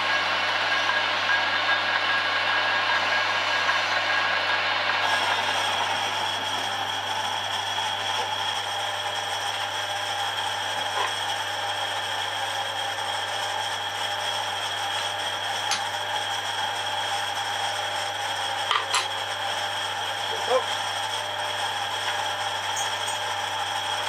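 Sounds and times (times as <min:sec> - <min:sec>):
lathe humming: 0:00.0 - 0:24.0.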